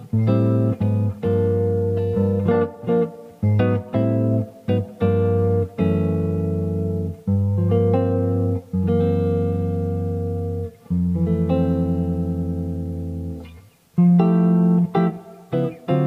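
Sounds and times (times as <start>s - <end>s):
guitar chords strummed: 0.0s - 16.0s.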